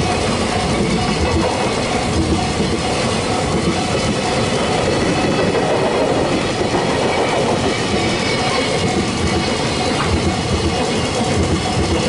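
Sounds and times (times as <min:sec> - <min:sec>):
freight train rumbling past: 0:00.0 - 0:12.0
level crossing alarm ringing: 0:00.0 - 0:12.0
wheels clacking over rail joints: 0:00.0 - 0:12.0.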